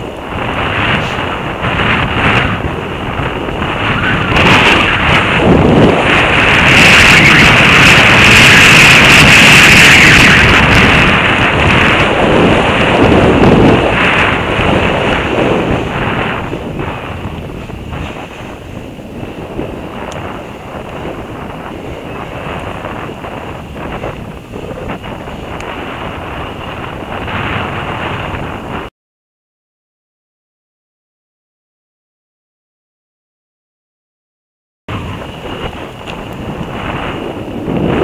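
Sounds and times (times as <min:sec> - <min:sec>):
wind rushing over microphone: 0:00.0 - 0:28.9, 0:34.9 - 0:38.0.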